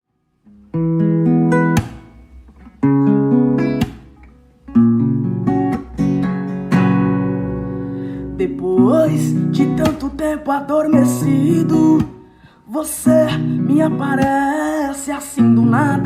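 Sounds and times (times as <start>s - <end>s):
acoustic guitar strumming chords: 0.4s - 16.0s.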